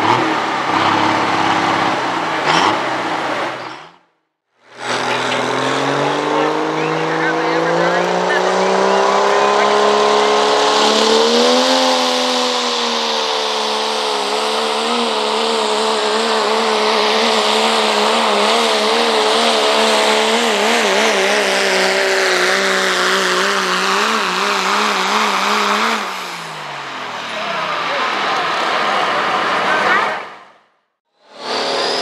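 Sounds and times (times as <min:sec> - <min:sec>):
diesel truck engine at full throttle: 0:00.0 - 0:32.0.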